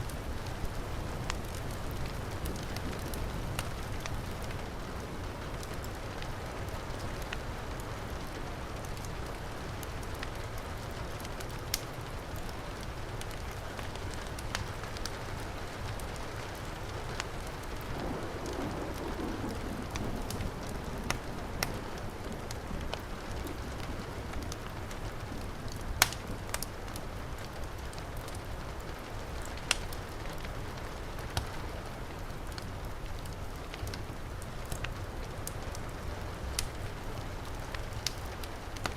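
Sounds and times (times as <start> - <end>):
heavy rain falling: 0.0 - 38.9
wood fire crackling and popping: 0.0 - 38.9.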